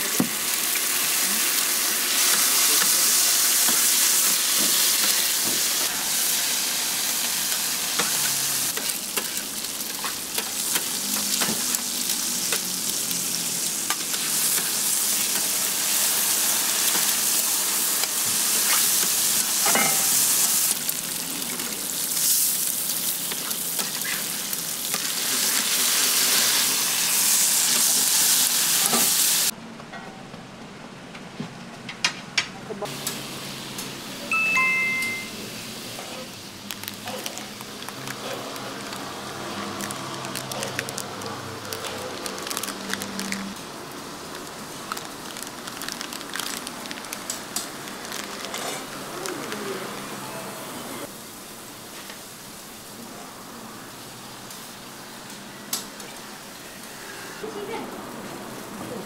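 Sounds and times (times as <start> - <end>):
food sizzling on a griddle: 0.0 - 29.5, 32.9 - 59.0.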